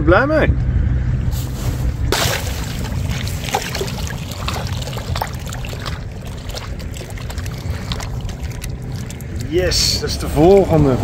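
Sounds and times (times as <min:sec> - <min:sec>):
water splashing and sloshing: 0:01.3 - 0:11.0.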